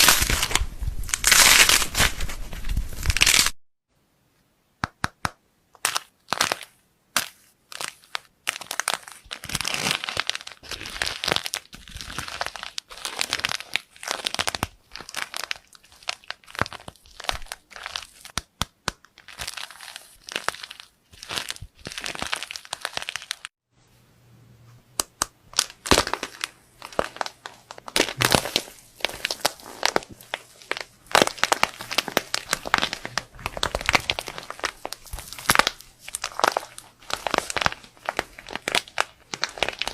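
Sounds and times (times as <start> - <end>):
slime crackling and squelching: 0.0 - 3.6, 5.8 - 23.6, 25.1 - 39.9.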